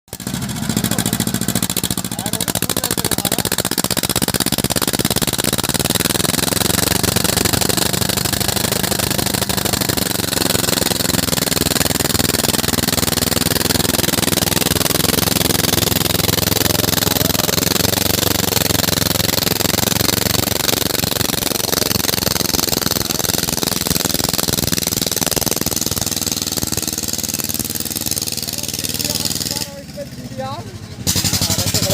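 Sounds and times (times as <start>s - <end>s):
tractor diesel engine running: 0.1s - 31.9s.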